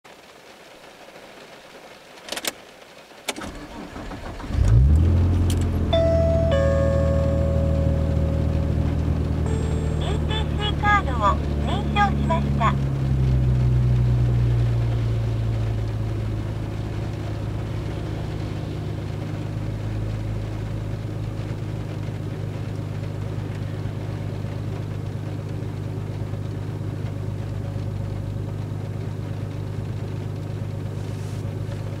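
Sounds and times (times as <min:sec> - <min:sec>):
car engine idling: 0:03.4 - 0:32.0.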